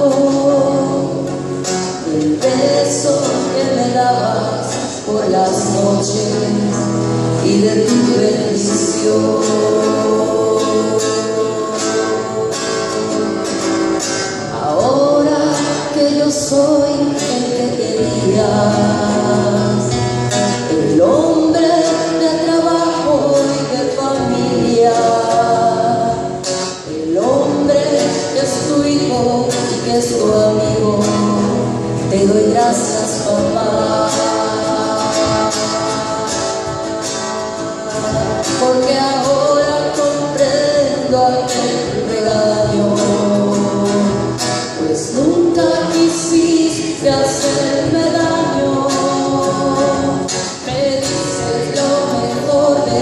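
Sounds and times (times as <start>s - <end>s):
person singing long notes: 0.0s - 13.7s, 14.4s - 53.0s
instrumental accompaniment: 0.0s - 53.0s.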